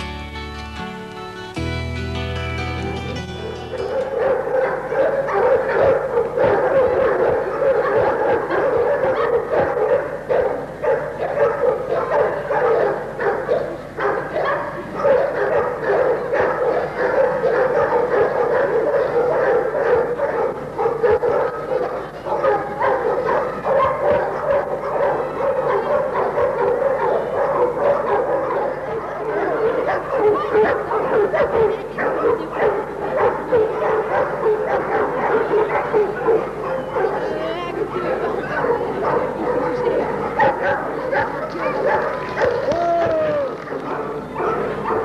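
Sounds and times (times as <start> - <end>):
dog barking rapidly: 3.9 - 42.7, 43.7 - 45.0.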